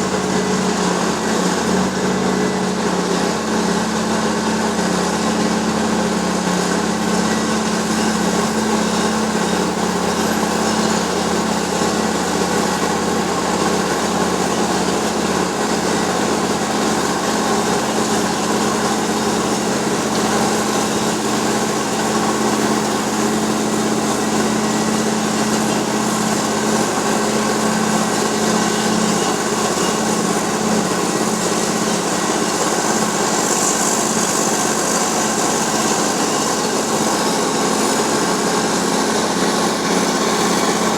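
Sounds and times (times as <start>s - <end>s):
cutting drum grinding asphalt: 0.0s - 40.9s
diesel engine humming: 0.0s - 40.9s.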